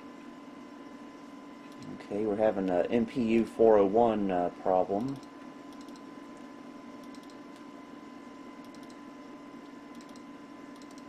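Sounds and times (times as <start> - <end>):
computer fans and drive hum: 0.0 - 11.0.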